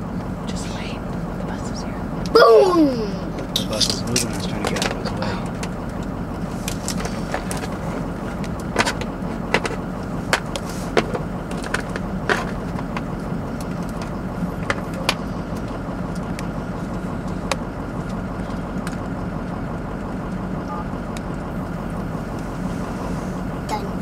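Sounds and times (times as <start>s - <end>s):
vehicle cabin hum: 0.0s - 24.0s.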